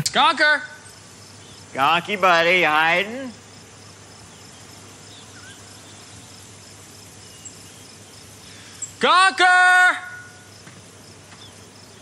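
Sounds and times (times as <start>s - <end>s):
insects chirping: 0.0s - 12.0s
soft hiss: 0.0s - 12.0s.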